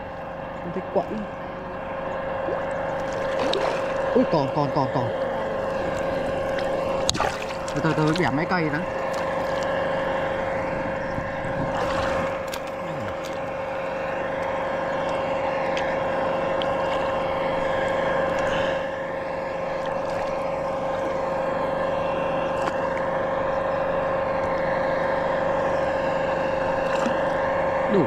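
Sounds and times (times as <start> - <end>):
motor drone: 0.0 - 28.0.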